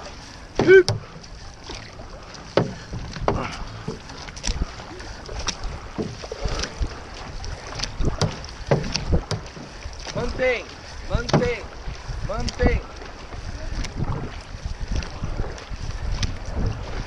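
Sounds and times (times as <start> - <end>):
paddles splashing in water: 0.0 - 17.0
water washing along hull: 0.0 - 17.0.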